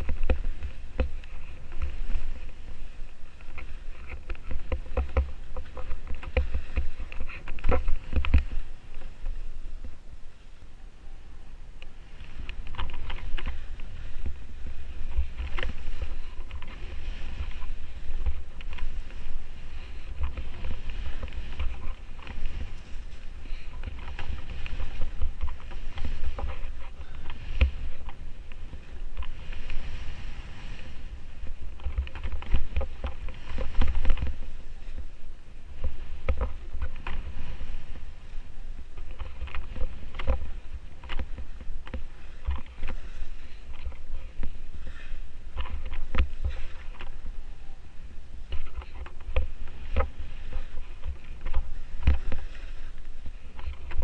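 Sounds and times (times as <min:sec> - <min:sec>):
skis scraping through snow: 0:00.0 - 0:10.5, 0:11.9 - 0:54.0
wind buffeting microphone: 0:00.0 - 0:54.0.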